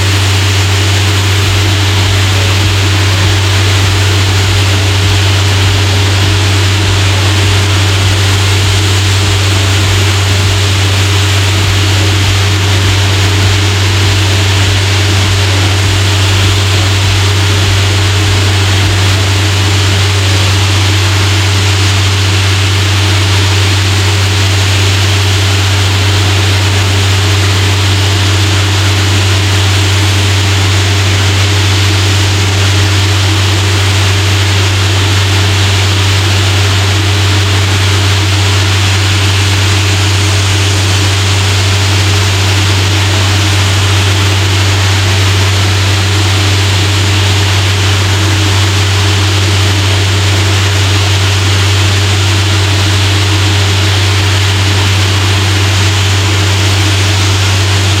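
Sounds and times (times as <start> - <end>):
compressed air hissing from blower: 0.0 - 58.0
diesel air compressor humming: 0.0 - 58.0.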